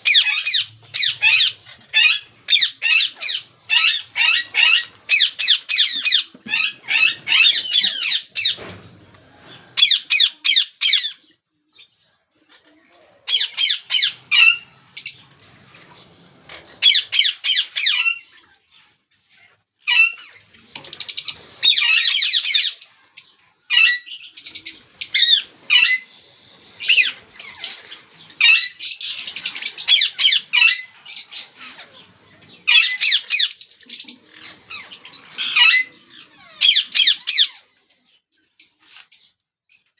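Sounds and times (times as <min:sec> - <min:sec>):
parakeet chicks squawking: 0:00.0 - 0:37.8.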